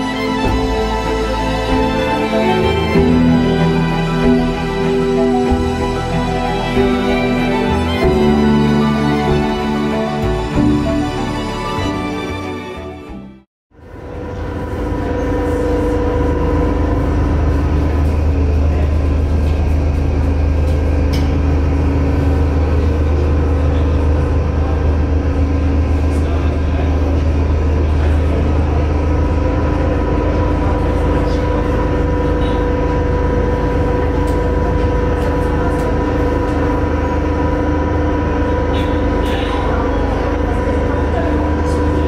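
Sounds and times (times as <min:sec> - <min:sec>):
cable car rumbling: 0:00.0 - 0:13.2, 0:13.8 - 0:42.0.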